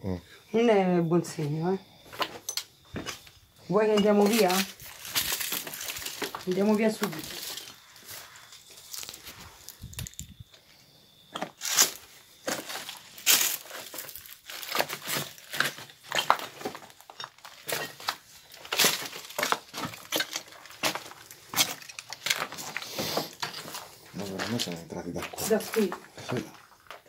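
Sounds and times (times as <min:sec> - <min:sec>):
footsteps crunching on rubble: 0:04.0 - 0:10.4, 0:11.3 - 0:27.0.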